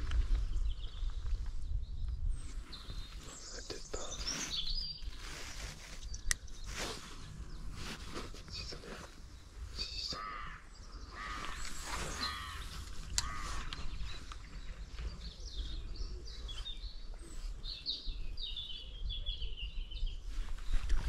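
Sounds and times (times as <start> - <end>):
steady low rumble: 0.0 - 19.3
birds calling: 2.3 - 21.0
high bird chirps: 2.6 - 7.8, 8.4 - 20.1.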